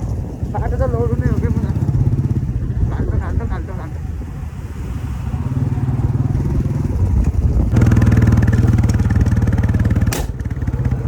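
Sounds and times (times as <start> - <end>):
motorcycle engine exhaust beats: 0.0 - 3.5, 5.5 - 11.0.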